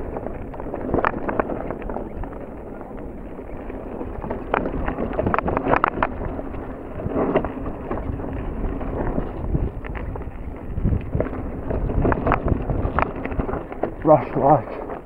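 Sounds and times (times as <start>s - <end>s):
bike rattling and knocking: 0.0s - 15.0s
bike tyres rolling over dirt: 0.0s - 15.0s
wind on microphone: 0.0s - 15.0s.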